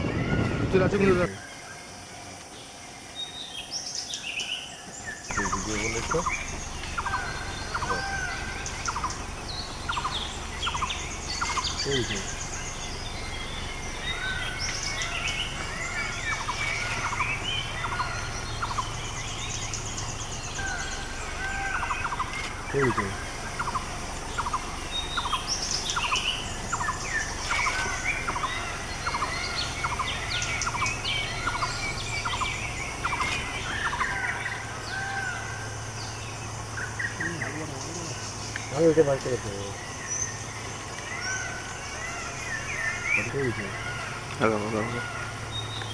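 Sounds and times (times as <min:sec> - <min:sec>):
birds chirping: 0:00.0 - 0:45.9
insects trilling: 0:00.0 - 0:45.9.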